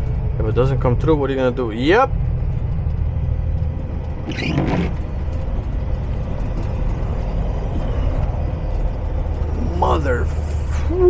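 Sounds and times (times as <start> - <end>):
truck diesel engine drone: 0.0 - 11.0.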